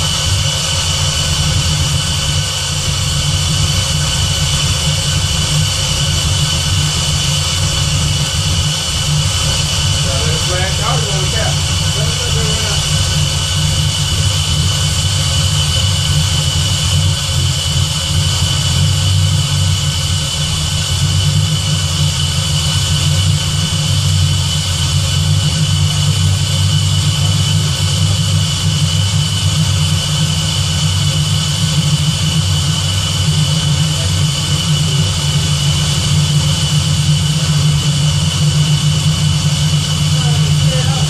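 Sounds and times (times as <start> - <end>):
car engine idling: 0.0 - 41.0
high whine: 0.0 - 41.0.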